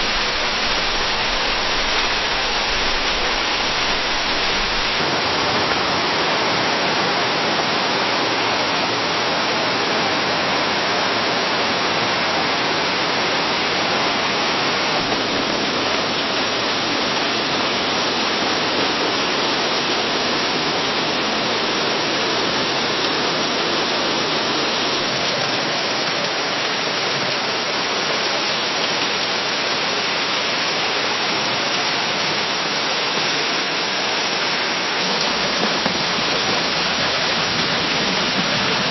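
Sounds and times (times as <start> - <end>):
rain on foliage: 0.0 - 38.9.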